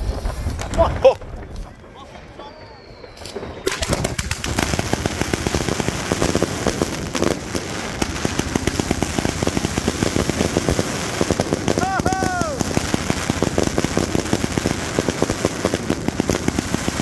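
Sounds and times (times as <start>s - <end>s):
crackling firework stars: 0.0s - 17.0s
firework cake firing rapid shots: 2.8s - 17.0s.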